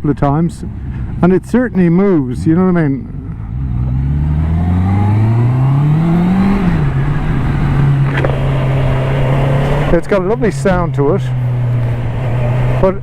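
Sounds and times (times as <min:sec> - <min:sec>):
motorcycle engine accelerating: 0:02.0 - 0:13.0.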